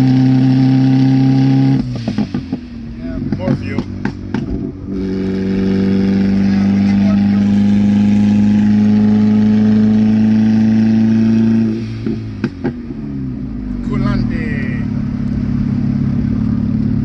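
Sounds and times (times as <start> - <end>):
car engine from inside cabin: 0.0 - 17.0.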